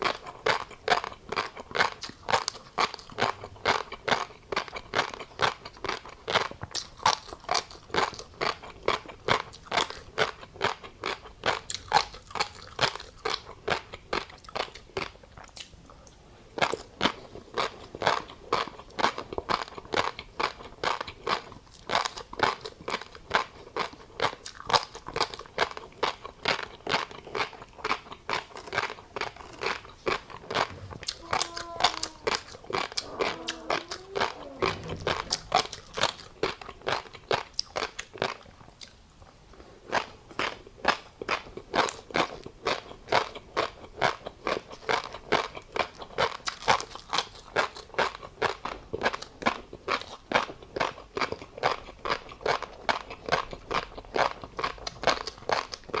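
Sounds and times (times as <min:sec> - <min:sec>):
crisp chewing crunches: 0:00.0 - 0:16.0, 0:16.6 - 0:56.0.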